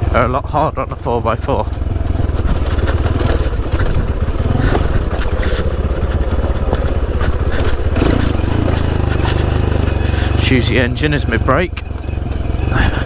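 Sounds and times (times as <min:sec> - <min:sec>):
light clatters over rough ground: 0:00.0 - 0:13.0
motorbike engine running: 0:00.0 - 0:13.0.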